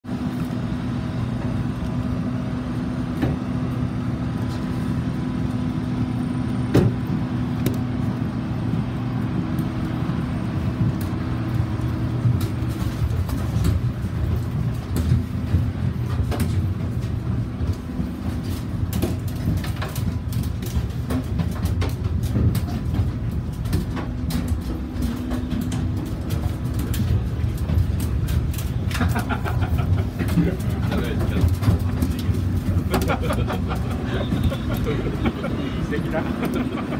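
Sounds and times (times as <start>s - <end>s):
low mechanical drone: 0.0s - 36.9s.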